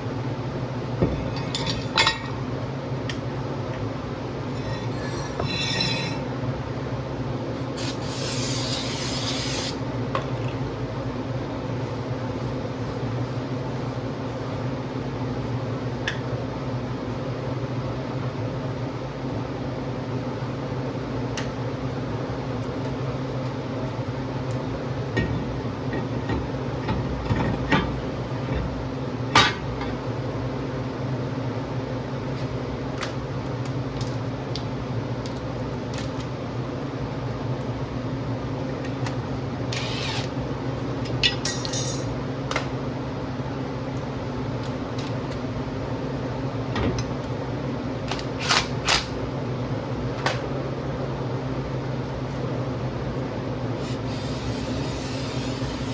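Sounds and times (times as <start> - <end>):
mechanical hum: 0.0 - 55.9.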